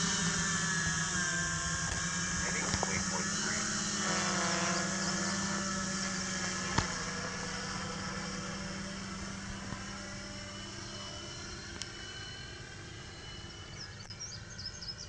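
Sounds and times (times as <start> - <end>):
drone rotors humming: 0.0 - 15.0.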